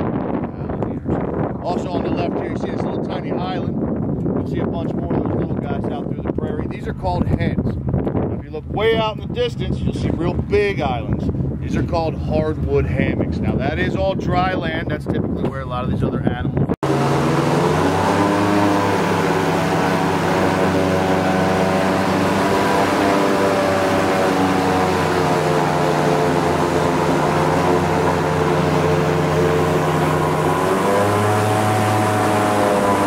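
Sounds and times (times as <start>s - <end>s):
airboat engine and propeller drone: 0.0s - 33.0s.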